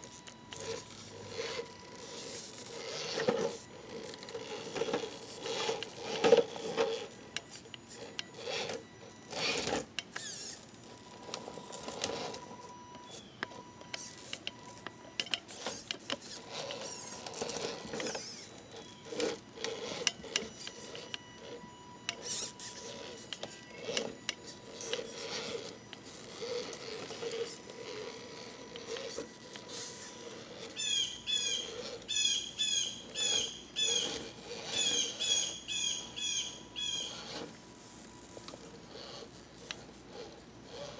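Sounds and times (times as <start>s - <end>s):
small motor and gears whirring: 0.0s - 40.9s.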